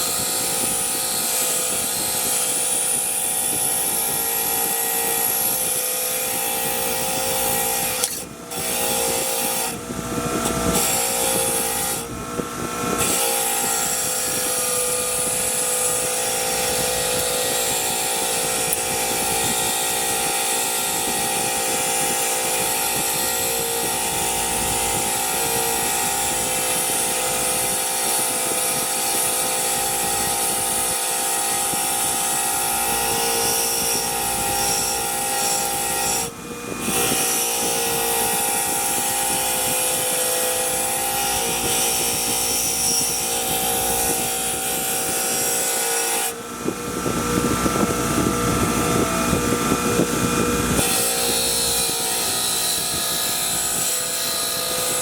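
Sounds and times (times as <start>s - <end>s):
power tool motor running: 0.0s - 55.0s.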